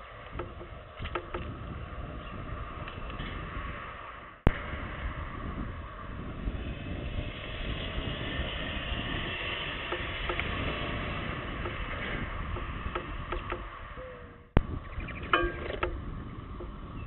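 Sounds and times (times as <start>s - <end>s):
low fluctuating rumble: 0.0s - 17.0s.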